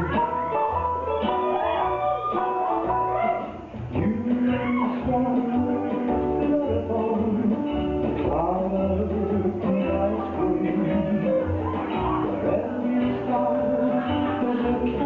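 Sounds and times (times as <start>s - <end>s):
instrumental music: 0.0s - 15.0s
steady bass line: 0.0s - 15.0s.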